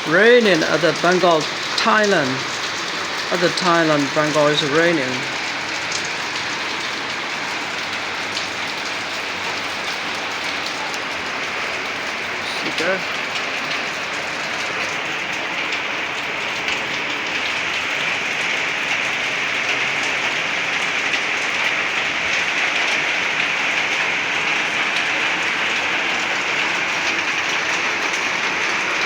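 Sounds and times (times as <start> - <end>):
heavy rain pattering: 0.0 - 29.0.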